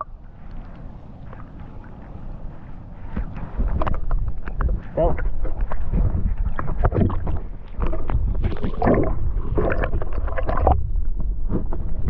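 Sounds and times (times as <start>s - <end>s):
water splashing and sloshing: 0.0s - 12.0s
wind rumbling on microphone: 0.0s - 12.0s.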